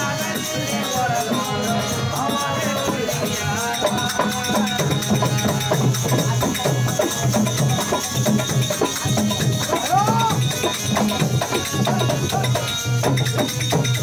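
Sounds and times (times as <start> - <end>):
dholak drum strokes: 0.0 - 14.0
hand percussion: 0.0 - 14.0
harmonium: 0.0 - 14.0.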